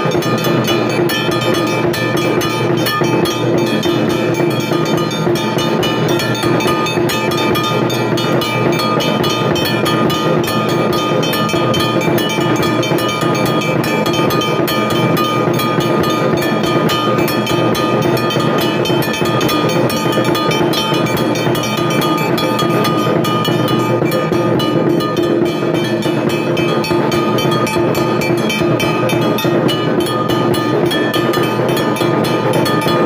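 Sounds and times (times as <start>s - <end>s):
temple bells ringing rapidly: 0.0s - 33.0s.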